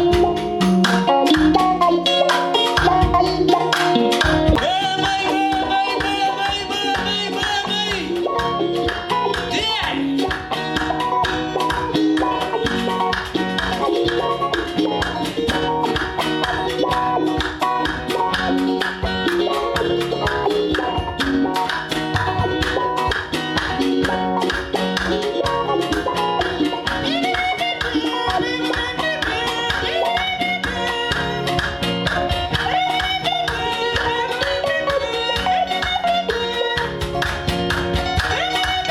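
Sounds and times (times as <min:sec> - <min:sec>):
fast drum beat: 0:00.0 - 0:38.9
plucked guitar: 0:00.0 - 0:38.9.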